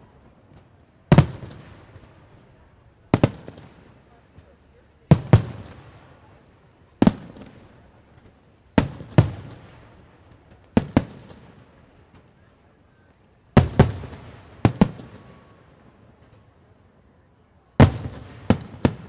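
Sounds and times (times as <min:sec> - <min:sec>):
fireworks booming with echo: 0:00.0 - 0:12.8, 0:13.5 - 0:16.4, 0:17.8 - 0:19.0.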